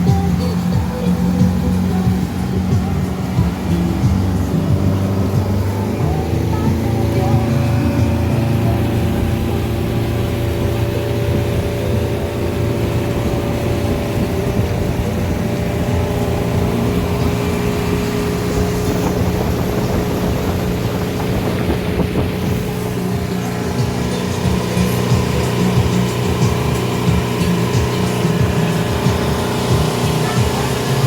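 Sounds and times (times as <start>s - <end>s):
outboard engine running: 0.0s - 31.0s
water noise: 0.0s - 31.0s
wind: 0.0s - 31.0s.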